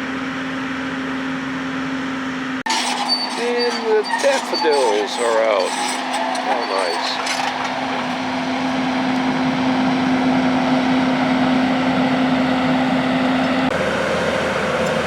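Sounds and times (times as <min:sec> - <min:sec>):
excavator engine humming: 0:00.0 - 0:15.0.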